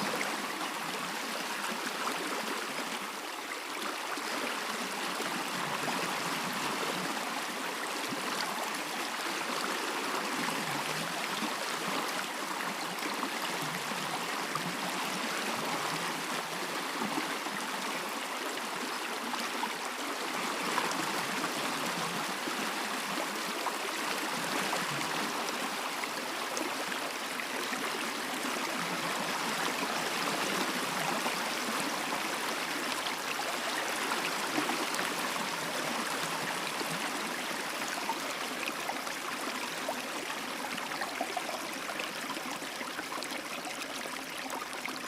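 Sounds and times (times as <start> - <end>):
stream of running water: 0.0 - 45.0.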